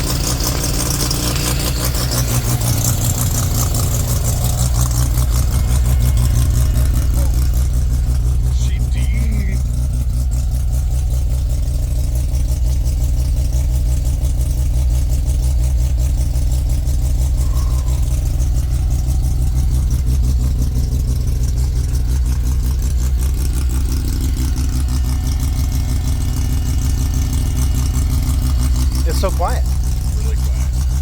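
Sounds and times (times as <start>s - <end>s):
rotary engine idling: 0.0s - 31.0s.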